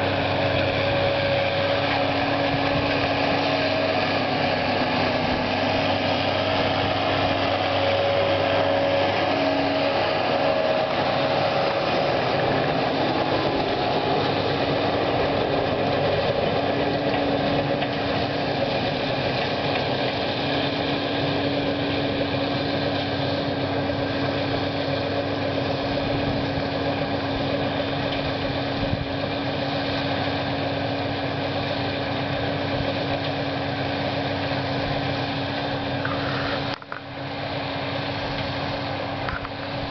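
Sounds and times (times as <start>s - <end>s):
tractor and baler humming: 0.0s - 39.9s.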